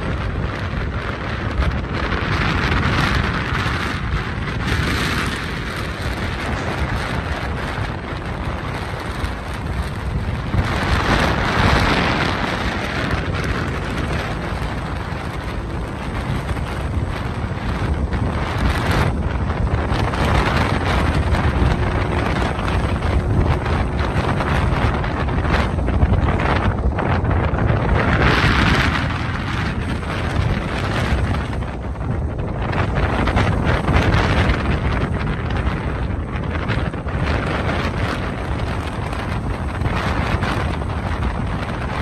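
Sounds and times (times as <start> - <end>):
jet engines rushing: 0.0 - 42.0
wind buffeting microphone: 0.0 - 42.0.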